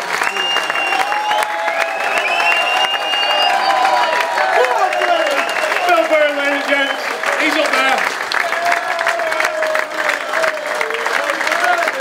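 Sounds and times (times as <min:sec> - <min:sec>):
crowd clapping: 0:00.0 - 0:12.0.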